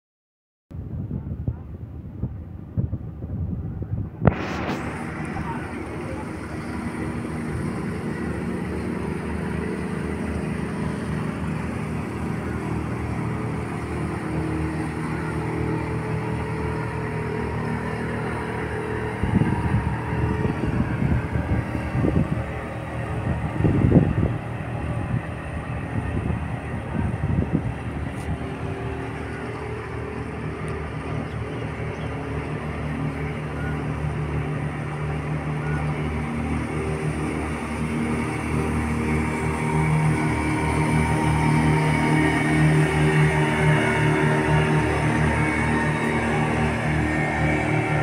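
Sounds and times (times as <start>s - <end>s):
boat engine humming: 0.8s - 48.0s
rushes of noise: 0.9s - 48.0s.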